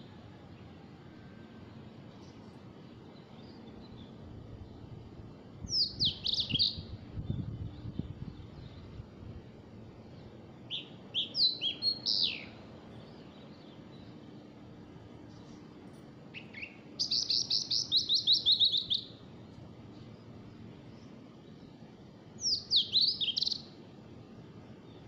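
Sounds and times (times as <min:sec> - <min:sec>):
songbird chirps and trill: 0:00.0 - 0:25.0.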